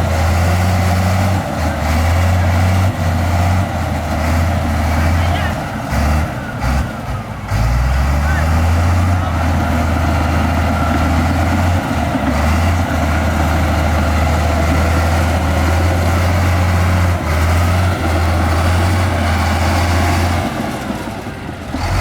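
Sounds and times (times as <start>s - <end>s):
heavy machinery diesel engine: 0.0s - 22.0s.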